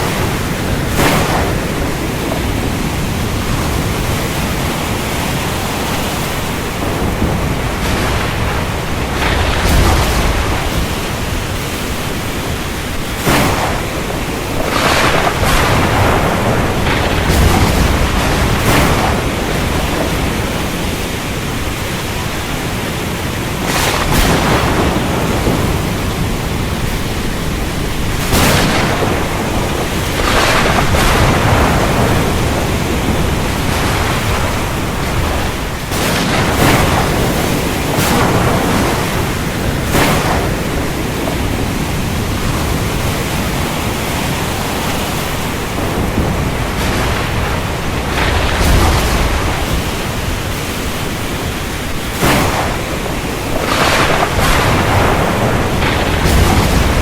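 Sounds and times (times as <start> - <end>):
heavy rain hiss: 0.0 - 57.0
thunder cracks: 0.0 - 57.0.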